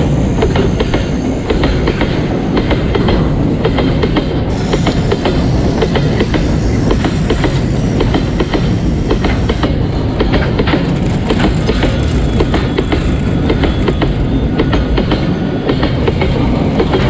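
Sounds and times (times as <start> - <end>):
wheels clicking over track joints: 0.4 - 17.0.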